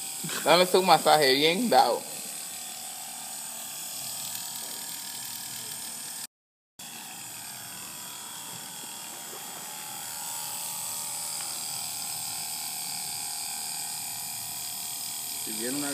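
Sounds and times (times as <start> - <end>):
massager motor buzzing: 0.0 - 15.9.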